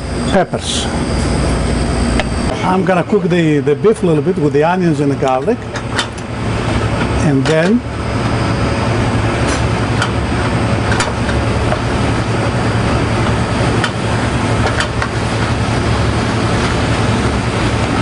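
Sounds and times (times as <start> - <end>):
exhaust hood and gas burner: 0.0 - 18.0.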